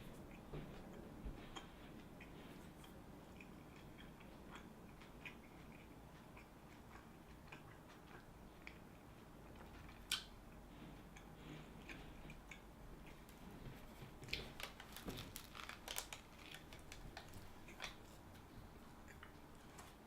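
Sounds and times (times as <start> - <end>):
person chewing sandwich: 0.0 - 20.0.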